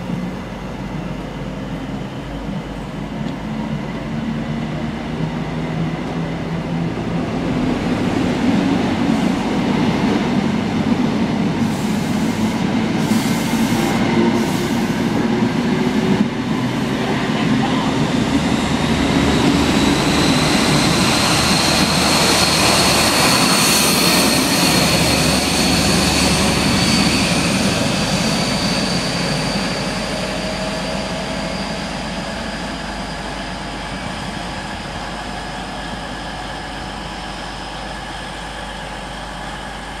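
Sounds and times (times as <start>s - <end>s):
diesel train engine rumble and whine: 0.0s - 40.0s.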